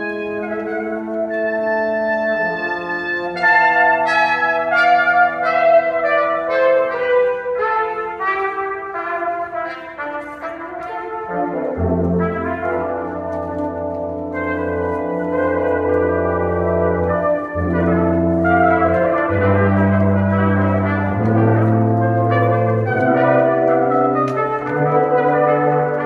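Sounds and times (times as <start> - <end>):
brass quintet playing: 0.0 - 26.0.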